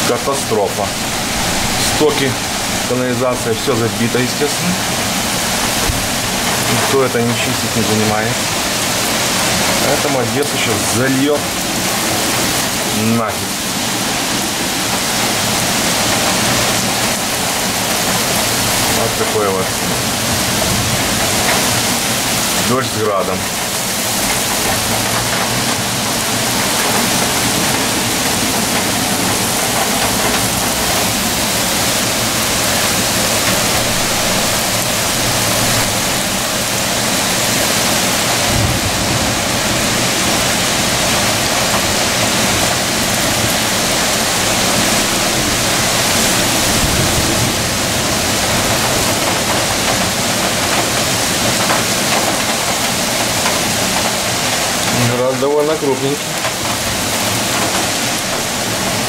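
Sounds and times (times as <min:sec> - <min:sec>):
heavy rain and hail: 0:00.0 - 0:59.0.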